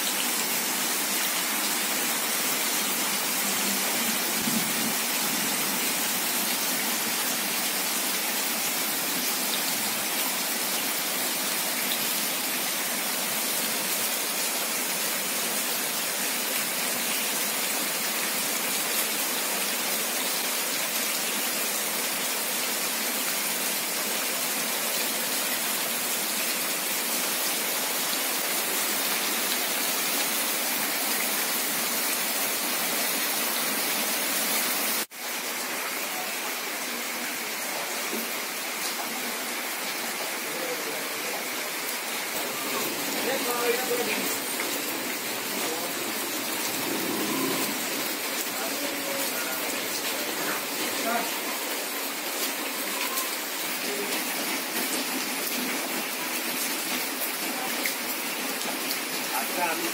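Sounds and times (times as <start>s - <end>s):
rain splashing on standing water: 0.0s - 59.9s.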